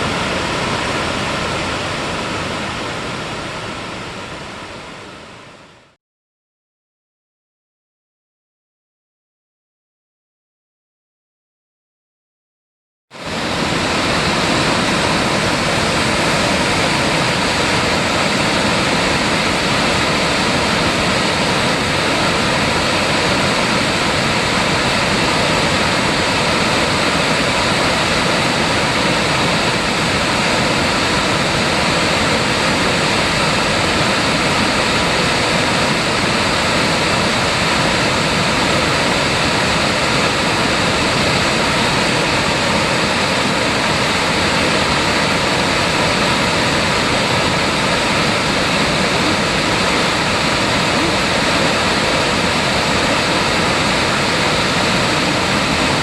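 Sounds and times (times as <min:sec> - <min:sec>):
stream rushing over rocks: 0:00.0 - 0:05.0, 0:13.2 - 0:56.0.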